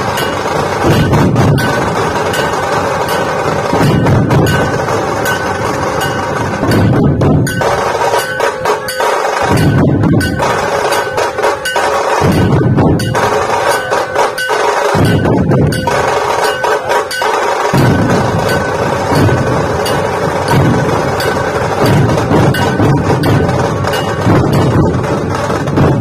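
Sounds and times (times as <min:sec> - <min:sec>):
metallic ringing: 0:00.0 - 0:25.1
barrel drums beaten fast: 0:00.0 - 0:26.0.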